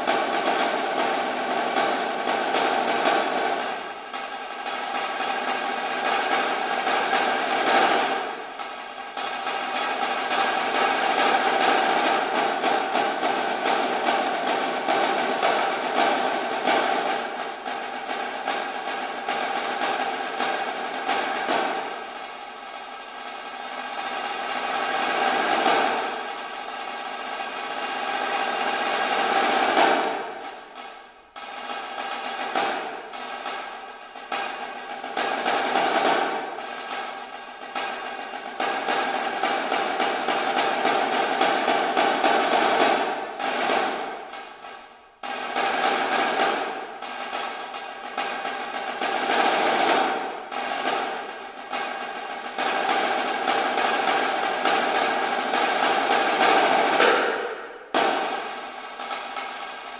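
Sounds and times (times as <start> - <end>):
snare drum rolls: 0.0 - 59.9.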